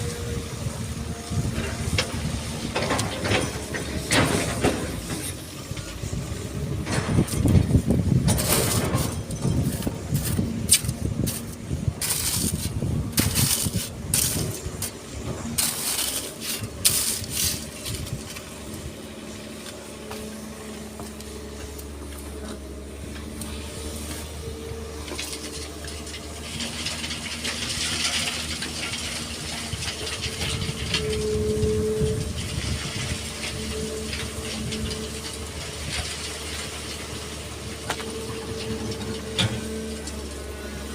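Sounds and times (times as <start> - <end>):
excavator engine drone: 0.0 - 40.9.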